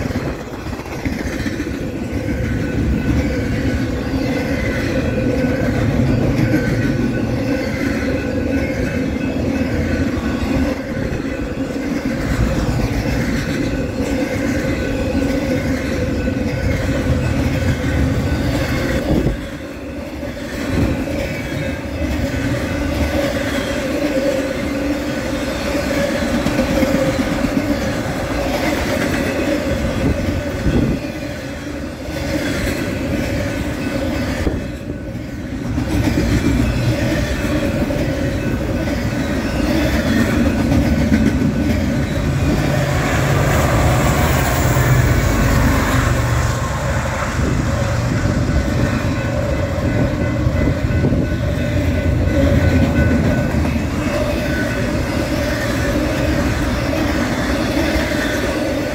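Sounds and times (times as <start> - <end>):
freight train wheels rumbling on rails: 0.0 - 58.9.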